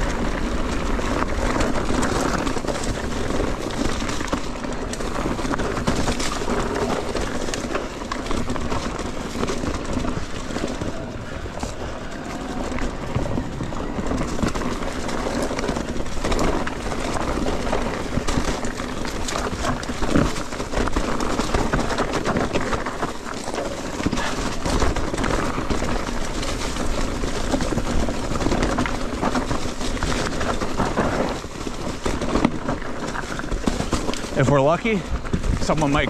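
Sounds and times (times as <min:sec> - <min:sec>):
bike clattering over bumps: 0:00.0 - 0:36.0
bike tyres on dirt trail: 0:00.0 - 0:36.0.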